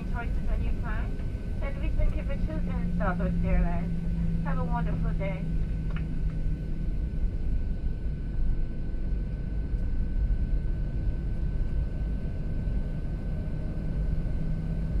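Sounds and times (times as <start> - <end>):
aircraft cabin rumble: 0.0 - 15.0
jet engine high whine: 0.0 - 15.0.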